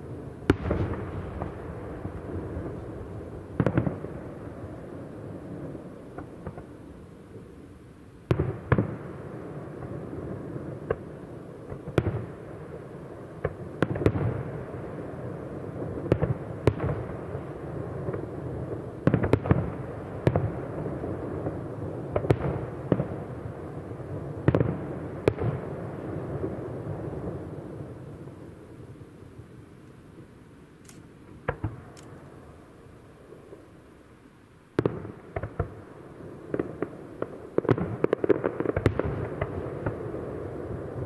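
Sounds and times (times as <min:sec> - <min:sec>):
fireworks bursting with echo: 0:00.0 - 0:07.6, 0:08.2 - 0:29.6, 0:30.2 - 0:33.8, 0:34.7 - 0:41.0.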